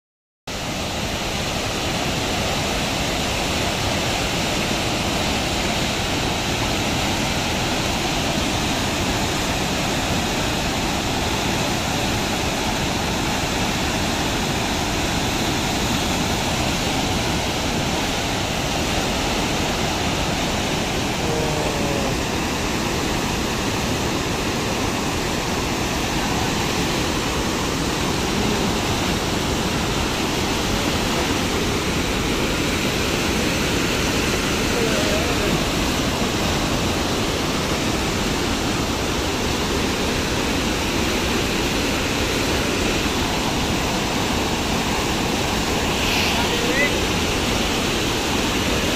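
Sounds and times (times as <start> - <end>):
river torrent rushing: 0.5 - 48.9.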